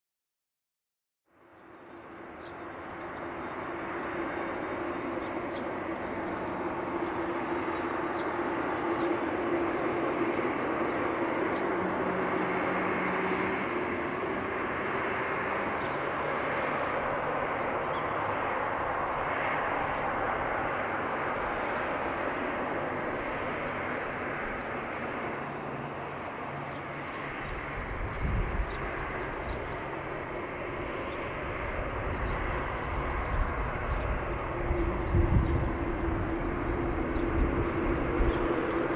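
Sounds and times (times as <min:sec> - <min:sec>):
jet engines roaring: 0:02.0 - 0:38.9.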